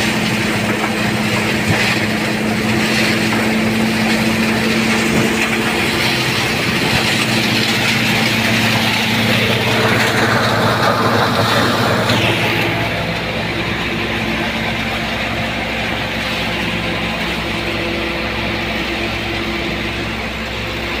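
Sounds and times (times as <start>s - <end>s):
rushing noise of material: 0.0s - 21.0s
thresher machine hum: 0.0s - 21.0s.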